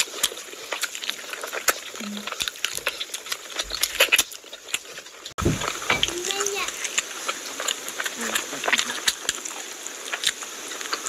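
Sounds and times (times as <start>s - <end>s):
fingers squishing food: 0.0s - 11.0s
wet chewing and lip smacks: 0.0s - 11.0s.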